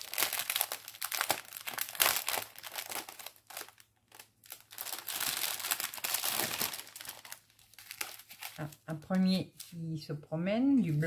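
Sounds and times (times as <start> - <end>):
plastic sachets crinkling: 0.0 - 9.8.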